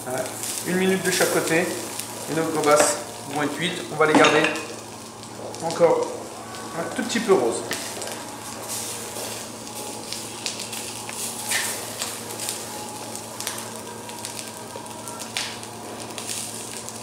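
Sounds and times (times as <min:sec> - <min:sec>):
prawns sizzling on a grill pan: 0:00.0 - 0:17.0.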